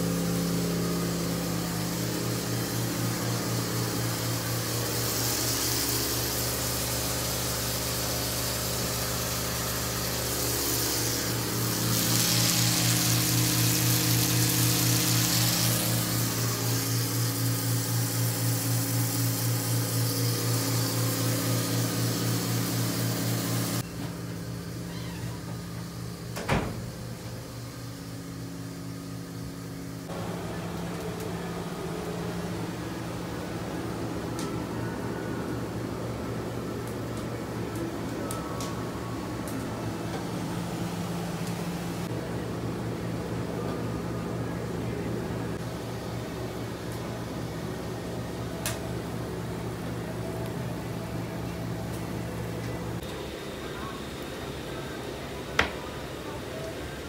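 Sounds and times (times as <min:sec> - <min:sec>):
electric pump pulsing hum: 0:00.0 - 0:57.0.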